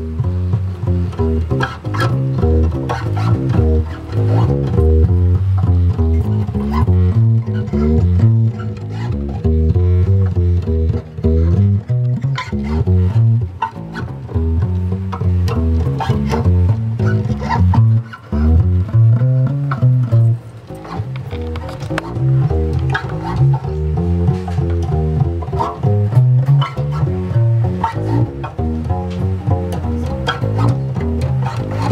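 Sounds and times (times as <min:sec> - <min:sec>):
plucked double bass notes: 0:00.0 - 0:31.9.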